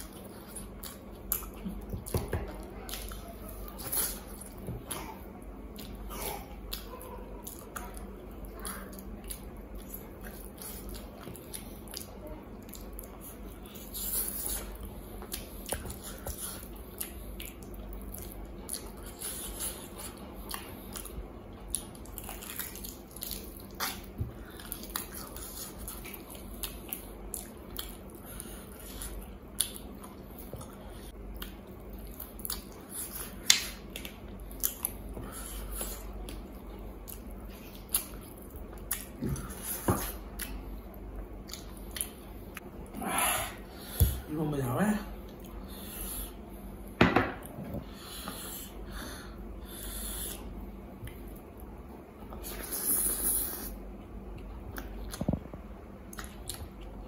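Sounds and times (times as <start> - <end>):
man chewing and lip-smacking: 0.0 - 5.0, 5.6 - 42.8, 49.7 - 57.0.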